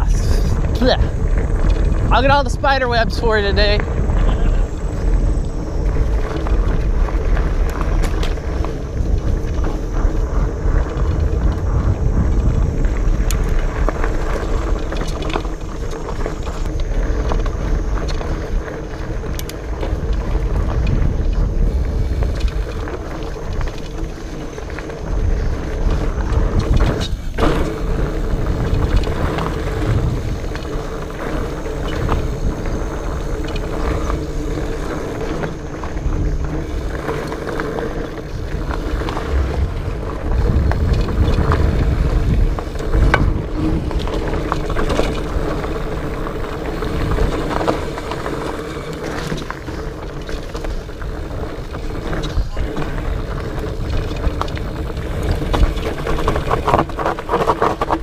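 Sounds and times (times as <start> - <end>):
bike knocks and rattles: 0.0 - 58.0
bike tyres rumbling over rocks: 0.0 - 58.0
wind buffeting microphone: 0.0 - 58.0.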